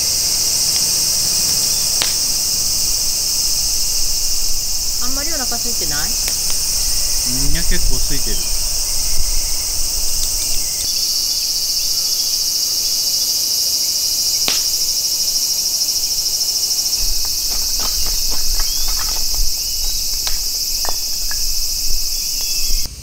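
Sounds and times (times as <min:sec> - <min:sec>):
wood fire crackling: 0:00.0 - 0:13.0, 0:14.1 - 0:22.9
insect chorus buzzing: 0:00.0 - 0:23.0.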